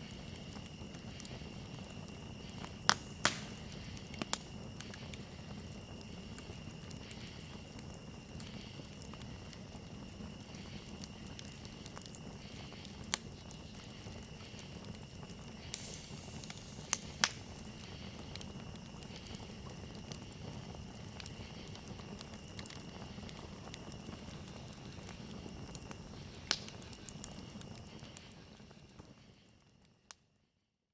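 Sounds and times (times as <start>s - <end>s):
fire crackling and popping: 0.0s - 30.3s
rush of campfire flames: 0.0s - 30.4s.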